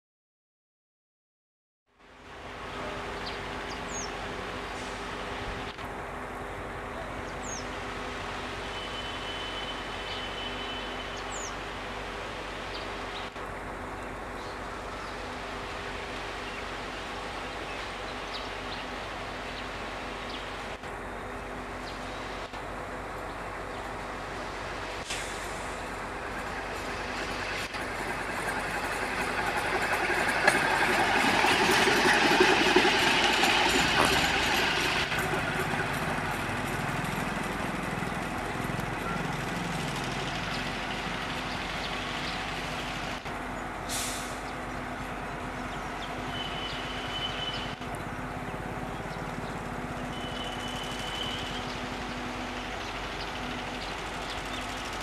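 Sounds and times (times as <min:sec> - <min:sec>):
rail trolley wheels running: 0:02.1 - 0:55.0.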